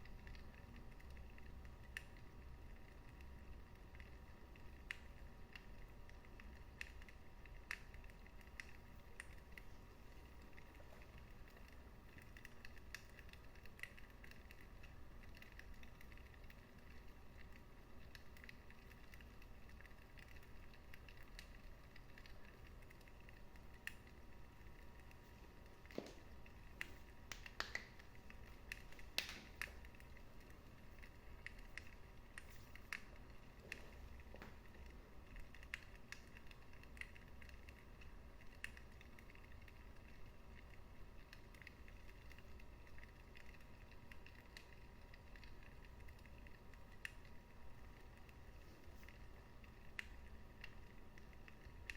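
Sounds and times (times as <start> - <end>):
low steady hiss: 0.0 - 51.9
wood fire crackling: 0.0 - 51.9.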